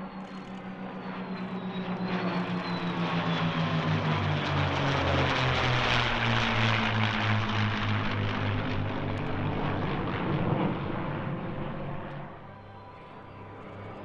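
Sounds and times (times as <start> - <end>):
piston engine aircraft drone: 0.0 - 14.0.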